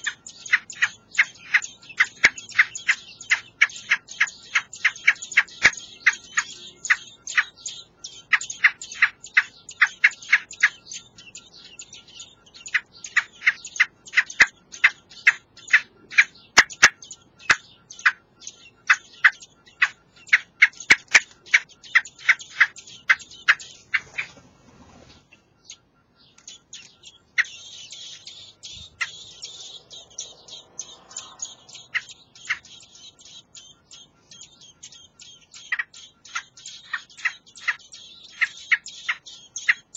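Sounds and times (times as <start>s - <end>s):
nestlings begging calls: 0.0s - 39.9s.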